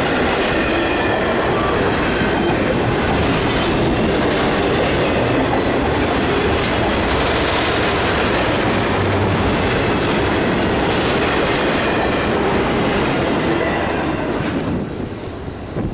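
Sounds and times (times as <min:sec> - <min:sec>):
freight train rolling past: 0:00.0 - 0:15.9.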